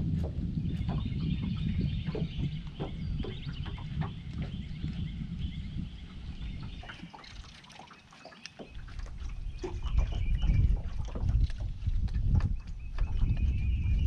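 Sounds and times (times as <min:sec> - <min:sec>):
waves lapping against boat hull: 0:00.0 - 0:14.0
wind rumbling on microphone: 0:00.0 - 0:14.0
birds chirping: 0:00.6 - 0:14.0.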